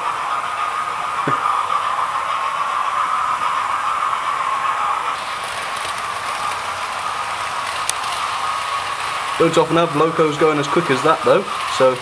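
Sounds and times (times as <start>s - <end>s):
model trains whirring on track: 0.0s - 12.0s.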